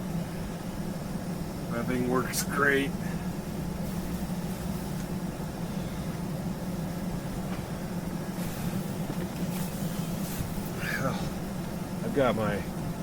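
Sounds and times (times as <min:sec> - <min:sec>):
air conditioner humming: 0:00.0 - 0:13.0
fan rushing: 0:00.0 - 0:13.0.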